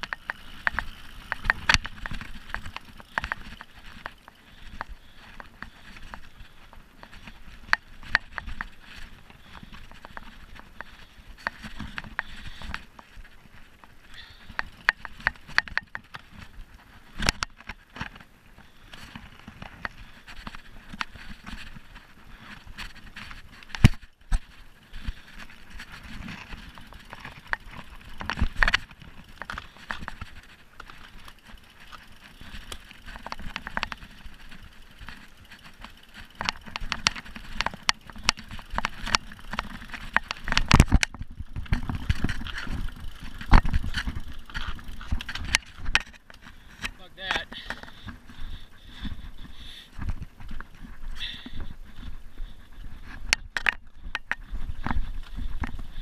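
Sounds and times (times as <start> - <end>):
bike clicking and rattling: 0.0 - 56.0
bike tyres on dirt trail: 0.0 - 56.0.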